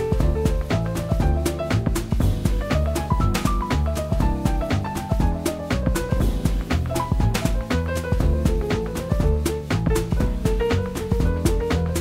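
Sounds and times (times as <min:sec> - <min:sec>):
bass notes: 0:00.0 - 0:12.0
drum kit steady beat: 0:00.0 - 0:12.0.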